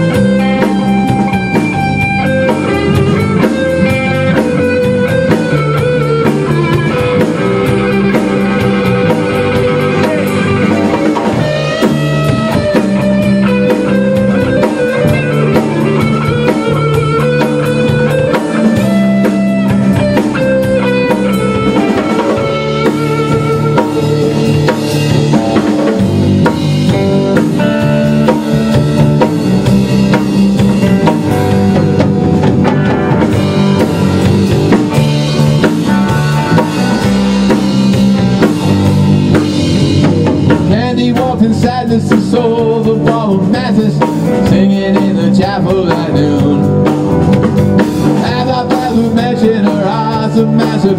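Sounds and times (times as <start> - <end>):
drum kit: 0.0 - 50.9
electric guitars: 0.0 - 50.9.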